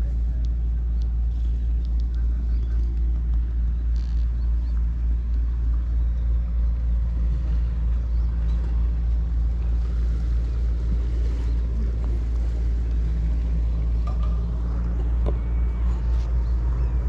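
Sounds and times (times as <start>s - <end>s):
deep engine hum: 0.0s - 17.0s.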